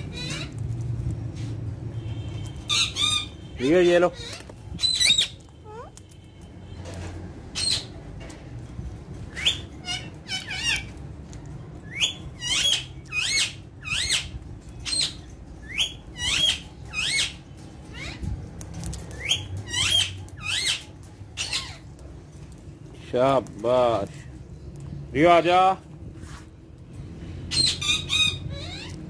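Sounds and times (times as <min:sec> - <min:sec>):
parakeets squawking: 0:00.0 - 0:01.2, 0:02.2 - 0:06.6, 0:07.3 - 0:08.4, 0:09.1 - 0:25.8, 0:26.9 - 0:29.0.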